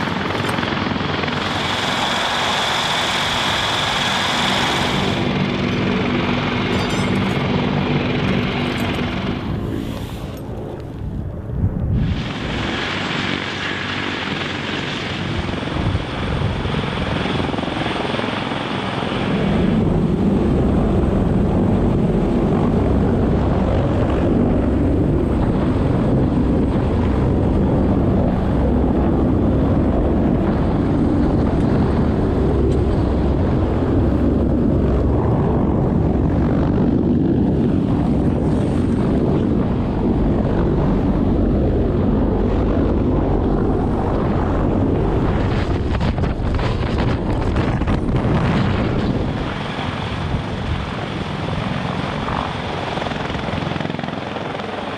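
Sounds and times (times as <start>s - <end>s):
helicopter rotors and engines: 0.0s - 54.9s.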